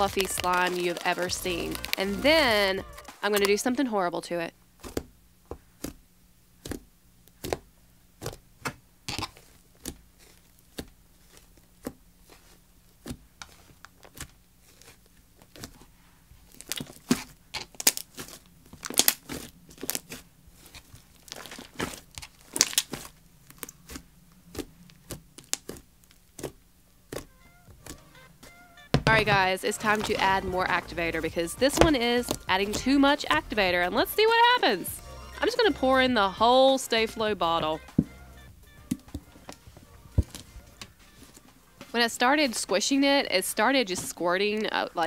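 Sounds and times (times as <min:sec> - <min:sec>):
sticky slime popping and crackling: 0:00.0 - 0:03.7, 0:04.7 - 0:35.7, 0:36.7 - 0:42.8.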